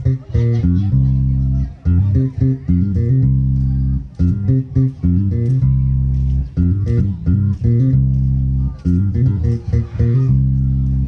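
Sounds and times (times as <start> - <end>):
electric bass guitar riff: 0.0 - 11.0.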